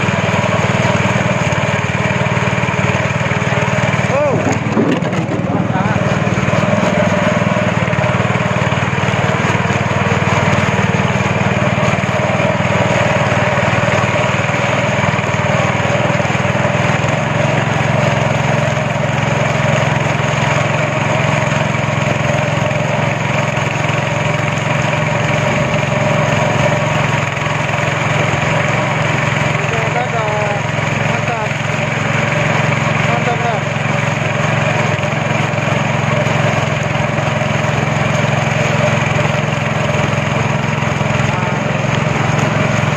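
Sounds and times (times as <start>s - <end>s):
speedboat engine droning: 0.0s - 42.9s.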